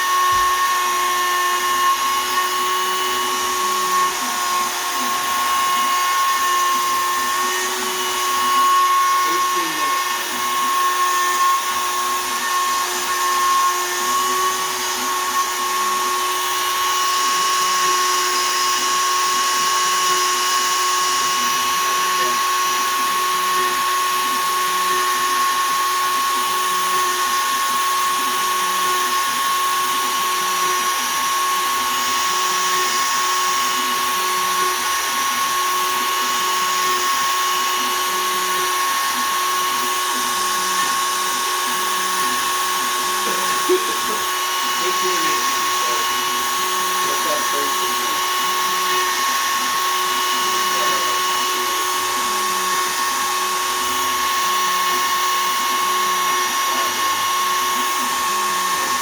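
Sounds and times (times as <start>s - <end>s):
cnc router whine: 0.0s - 59.0s.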